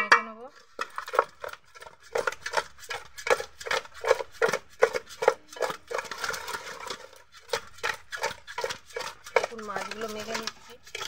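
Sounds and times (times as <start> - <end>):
metal spatula scraping a pot: 0.0 - 11.0.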